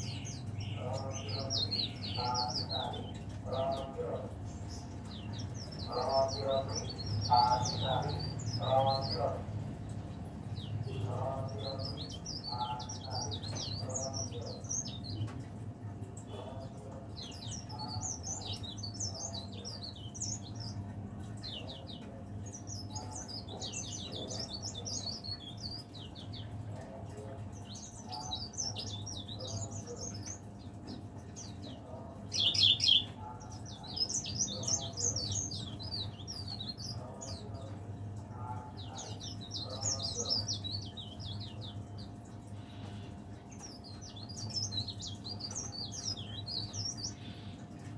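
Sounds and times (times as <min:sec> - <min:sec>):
leaf warbler twittering song: 0:00.0 - 0:47.9.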